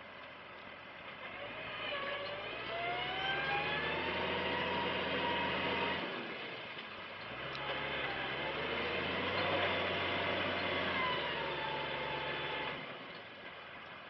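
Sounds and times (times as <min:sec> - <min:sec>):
tractor diesel engine working hard: 0:00.7 - 0:14.0.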